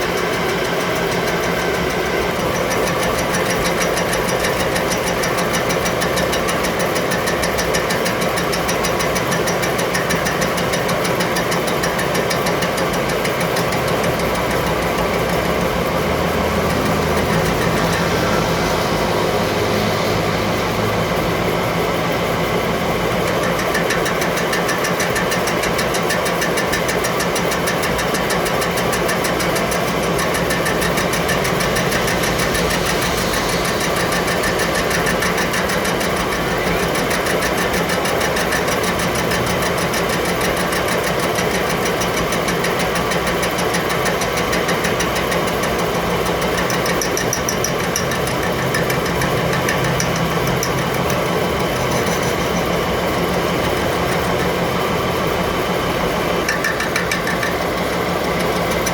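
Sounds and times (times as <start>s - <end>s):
engine running with fast ticking: 0.0s - 58.9s.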